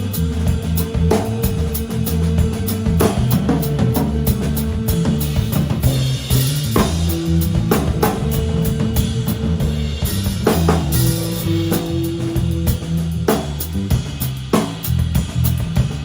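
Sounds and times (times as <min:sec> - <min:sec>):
drum kit: 0:00.0 - 0:16.0
electric bass notes: 0:00.0 - 0:16.0.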